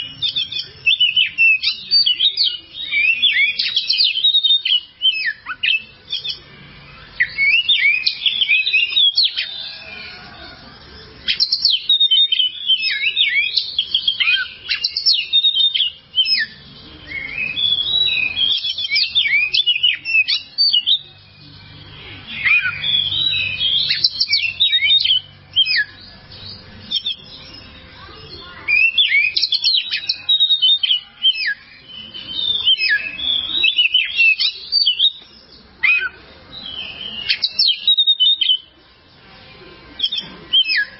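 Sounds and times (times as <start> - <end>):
bird singing whistles and chirps: 0.0 - 10.4, 11.1 - 38.7, 40.0 - 40.9.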